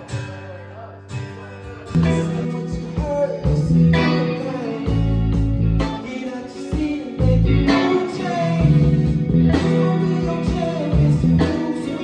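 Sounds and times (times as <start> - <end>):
live band playing loud: 1.9 - 12.0.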